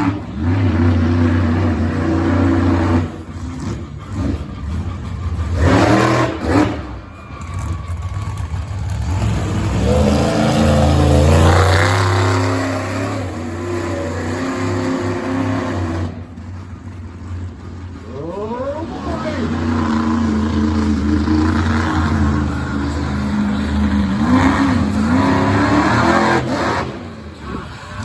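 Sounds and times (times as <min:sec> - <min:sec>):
loud engine bursts: 0:00.0 - 0:28.0
monster truck engine revving: 0:00.0 - 0:28.0.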